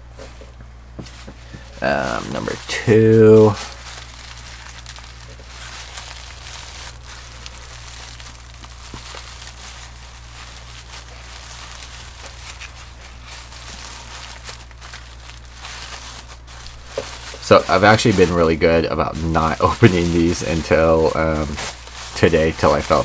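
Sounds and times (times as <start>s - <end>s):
low electrical hum: 0.0s - 23.0s
tissue paper rustling and crinkling: 1.0s - 23.0s.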